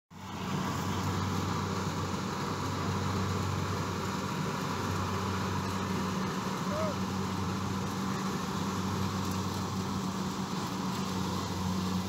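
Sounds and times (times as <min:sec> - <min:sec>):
diesel engine low drone: 0:00.1 - 0:12.0.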